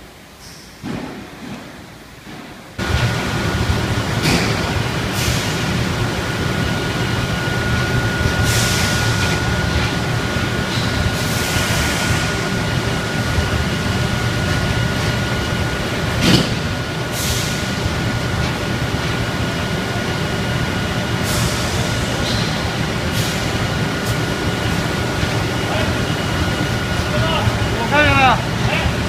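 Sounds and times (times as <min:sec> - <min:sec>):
high machine whine: 0:02.8 - 0:29.0
machinery drone: 0:02.8 - 0:29.0.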